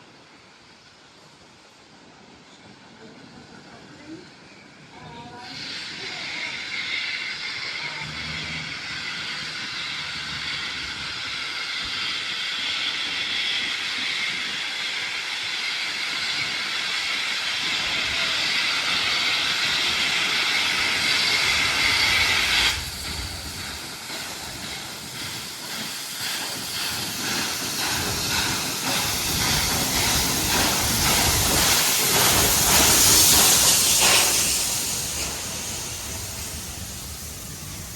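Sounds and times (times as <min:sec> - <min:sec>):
steam locomotive hissing: 0:00.0 - 0:37.9
rhythmic locomotive exhaust beats: 0:05.8 - 0:37.9.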